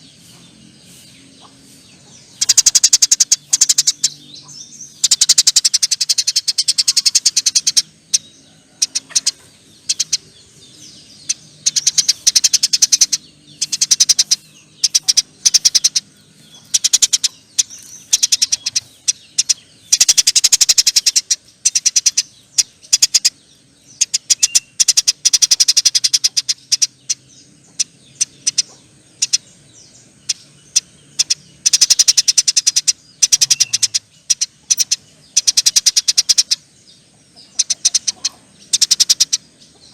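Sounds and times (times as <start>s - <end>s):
sparrows chattering: 0.0s - 39.9s.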